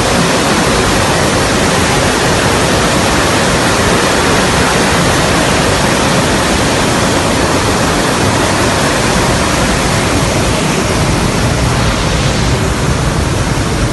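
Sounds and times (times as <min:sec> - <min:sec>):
jet aircraft engine rush: 0:00.0 - 0:13.9.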